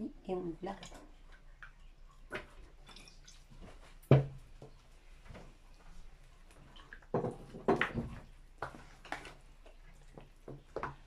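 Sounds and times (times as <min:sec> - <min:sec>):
wet food stirred in a basin: 0:00.0 - 0:11.0.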